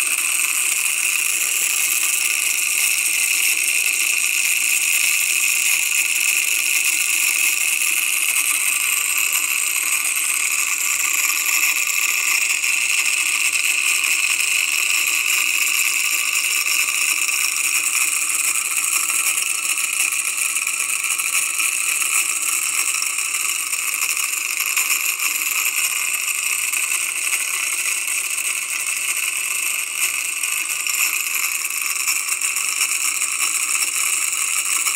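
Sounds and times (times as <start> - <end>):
small motor buzzing rattle: 0.0 - 34.9.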